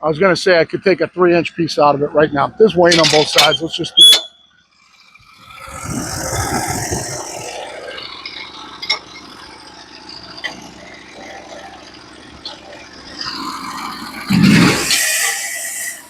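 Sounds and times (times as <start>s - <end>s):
sawmill engine running: 0.0s - 16.0s.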